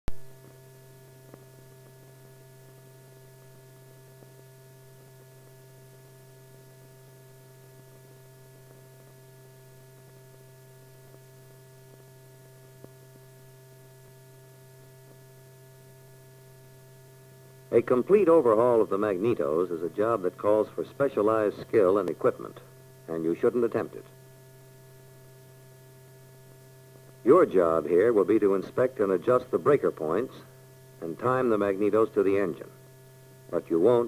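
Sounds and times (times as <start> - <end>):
low electrical hum: 0.1 - 34.0.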